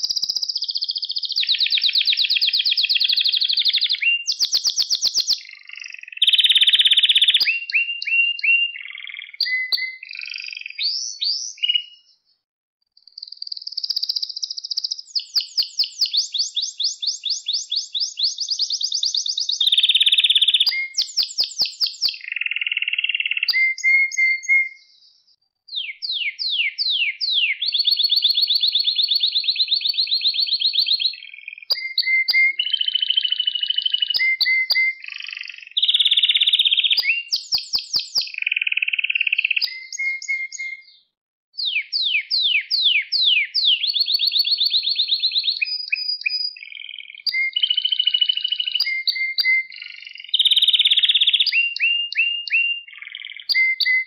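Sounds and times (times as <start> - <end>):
canary singing trills: 0.0 - 12.3, 13.0 - 54.0.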